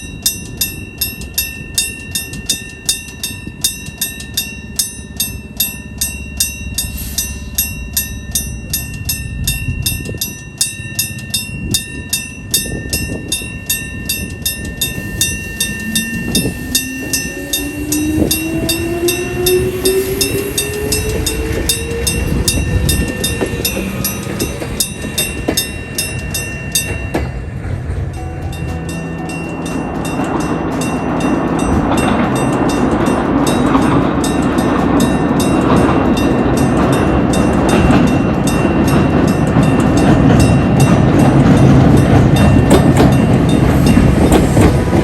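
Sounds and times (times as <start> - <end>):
level crossing bell ringing: 0.0 - 45.0
train motors whining: 0.0 - 45.0.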